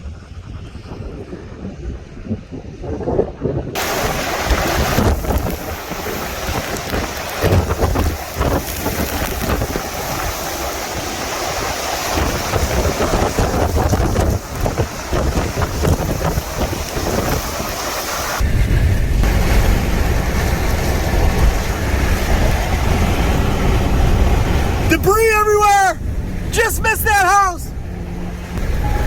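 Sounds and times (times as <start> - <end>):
strong storm wind: 0.0 - 29.0
wind buffeting microphone: 0.0 - 29.0
heavy rain: 3.8 - 29.0.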